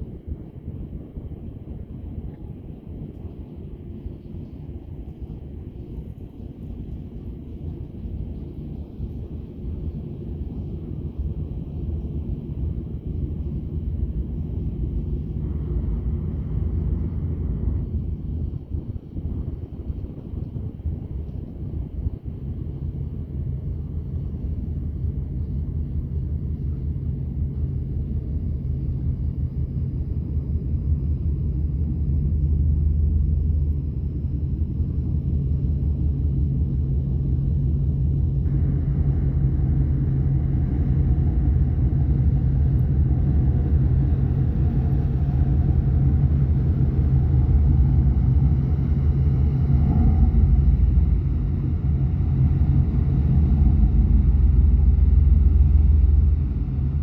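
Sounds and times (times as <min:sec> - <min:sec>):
boat engines rumbling: 0:06.7 - 0:57.0.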